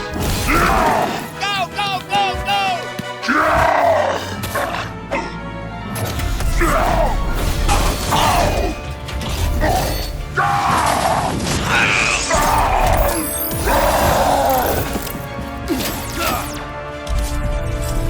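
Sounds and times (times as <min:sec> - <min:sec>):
action music with deep bass: 0:00.0 - 0:18.0.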